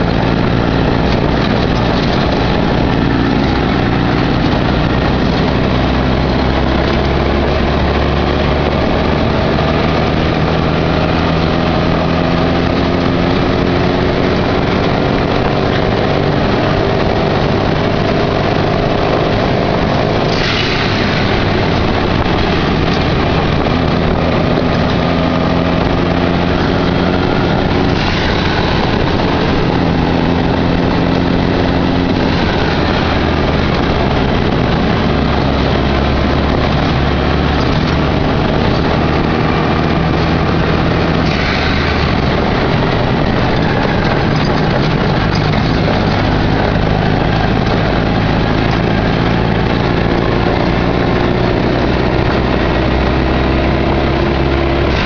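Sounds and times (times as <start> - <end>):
dune buggy engine running: 0.0 - 55.0
wind and road noise: 0.0 - 55.0.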